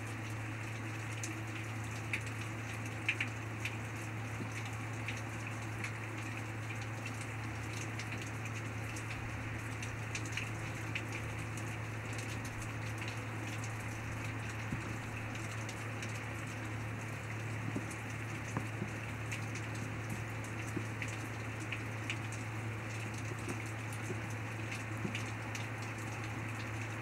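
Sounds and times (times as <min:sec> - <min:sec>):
raindrops ticking close by: 0:00.0 - 0:27.0
steady rain: 0:00.0 - 0:27.0.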